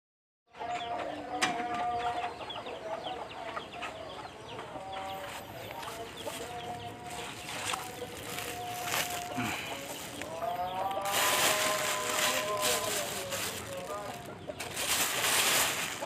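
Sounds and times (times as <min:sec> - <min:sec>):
chickens clucking and peeping: 0:00.5 - 0:16.0.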